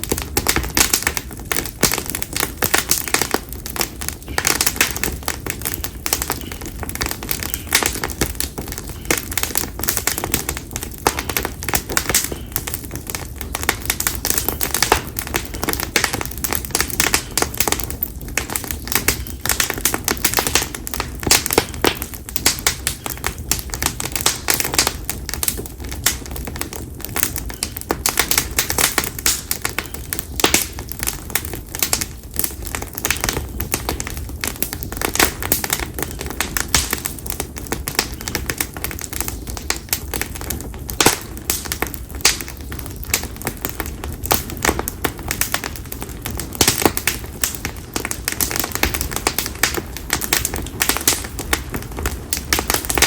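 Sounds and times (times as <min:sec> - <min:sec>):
campfire crackling and popping: 0:00.0 - 0:53.0
low rumble of burning fire: 0:00.0 - 0:53.0.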